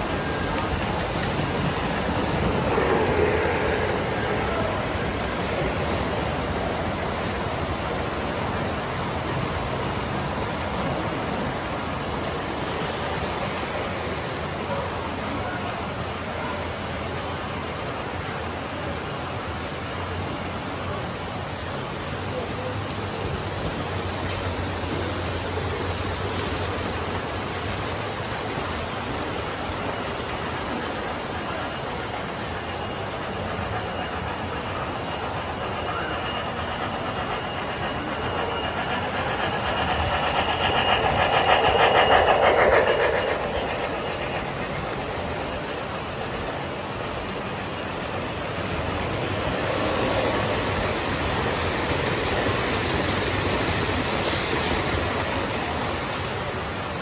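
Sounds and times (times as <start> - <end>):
model train rolling rumble: 0.0 - 57.0.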